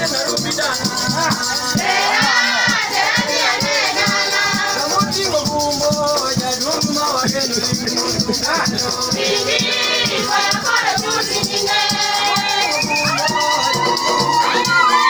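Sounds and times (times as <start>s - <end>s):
church choir singing: 0.0s - 15.0s
shakers rattling a beat: 0.0s - 15.0s.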